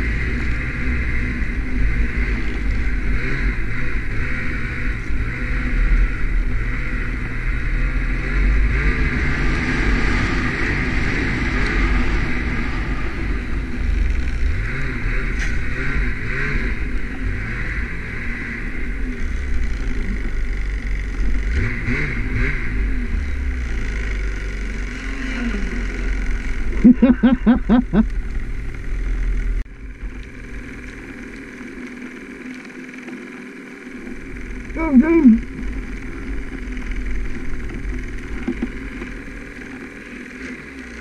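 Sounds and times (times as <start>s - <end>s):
snowmobile engine running: 0.0s - 41.0s.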